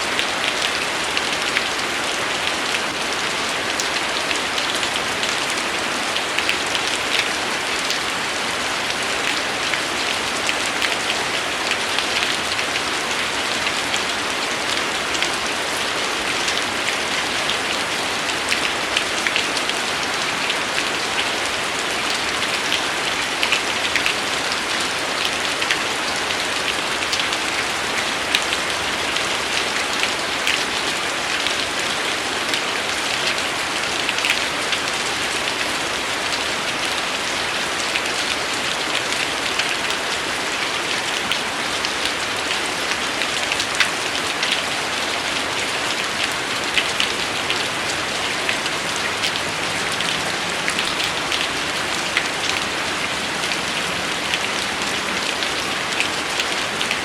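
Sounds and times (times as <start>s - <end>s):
rain with drops ticking: 0.0s - 57.0s.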